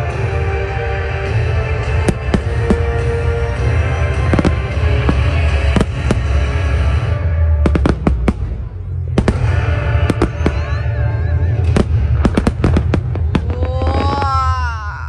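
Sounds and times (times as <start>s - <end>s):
loud music with heavy bass: 0.0s - 14.6s
fireworks bangs and crackles: 0.0s - 14.8s.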